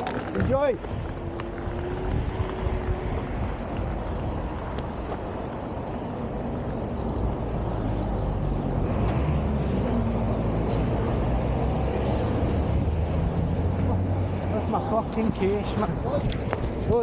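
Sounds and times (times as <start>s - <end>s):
street noise: 0.0s - 17.0s
vehicle engine rumble: 0.0s - 17.0s.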